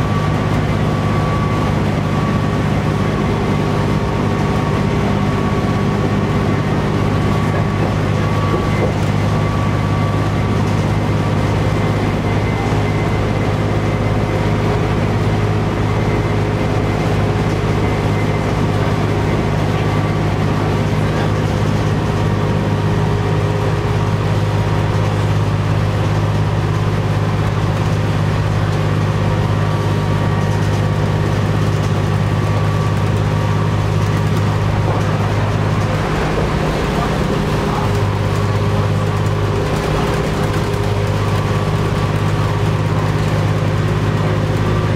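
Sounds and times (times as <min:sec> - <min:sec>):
bus diesel engine droning: 0:00.0 - 0:44.9
road noise: 0:00.0 - 0:44.9
steady engine whine: 0:00.0 - 0:44.9.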